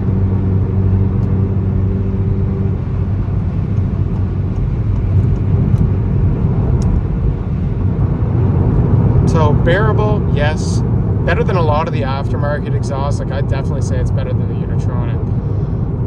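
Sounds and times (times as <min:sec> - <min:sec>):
car exhaust drone: 0:00.0 - 0:16.0
road rumble: 0:00.0 - 0:16.0.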